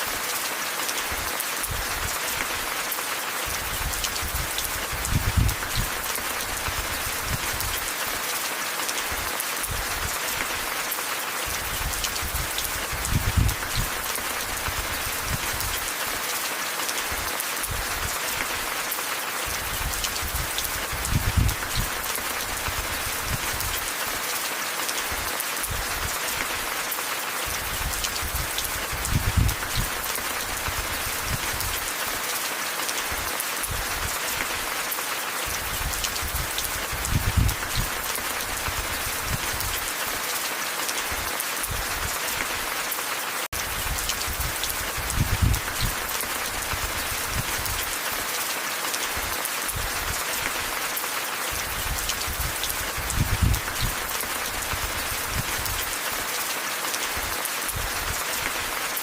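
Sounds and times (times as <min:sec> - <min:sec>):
steady rain on a surface: 0:00.0 - 0:59.0.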